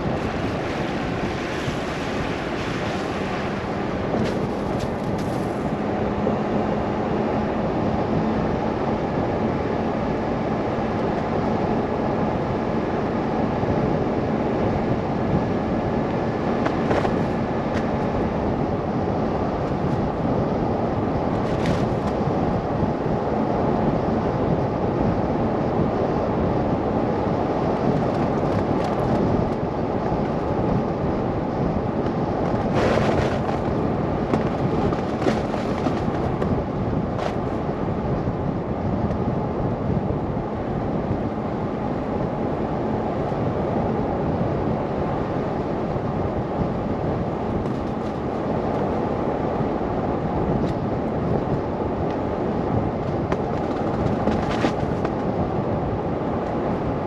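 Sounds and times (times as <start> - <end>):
car road noise: 0.0 - 57.0
wind: 0.0 - 57.0.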